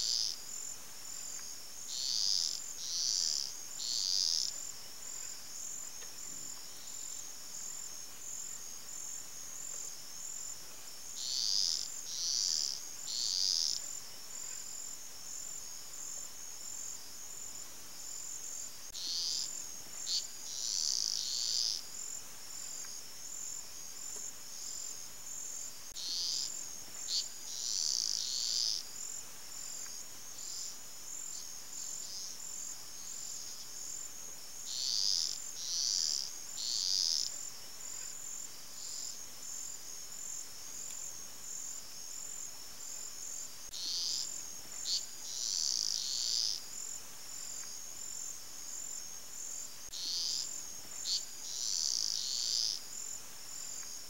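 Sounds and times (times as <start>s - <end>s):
insects chirring chorus: 0.0s - 54.0s.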